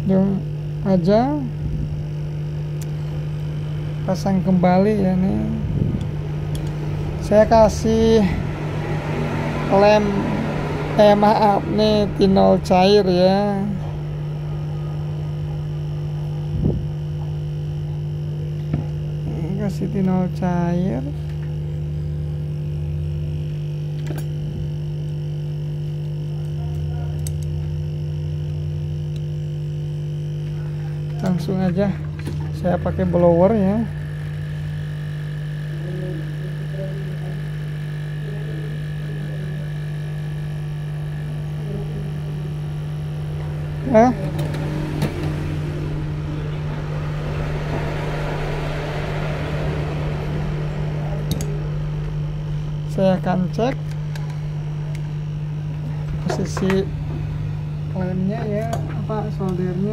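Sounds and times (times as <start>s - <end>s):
hot-air station fan hiss: 0.0s - 59.9s
low electrical hum: 0.0s - 59.9s.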